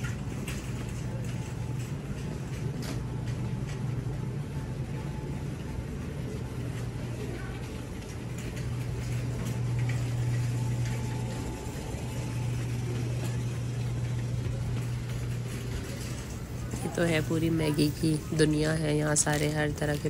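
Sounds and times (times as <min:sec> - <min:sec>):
refrigeration hum: 0:00.0 - 0:20.0.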